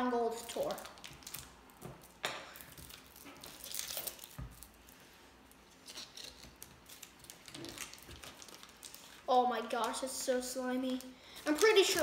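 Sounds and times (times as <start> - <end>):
foil wrapper crinkling: 0.3 - 5.0, 5.7 - 10.2, 10.9 - 12.0.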